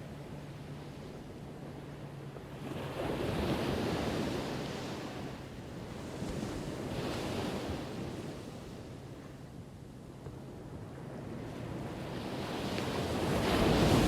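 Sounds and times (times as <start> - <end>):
ocean waves breaking on shore: 0.0 - 9.5, 10.1 - 14.0.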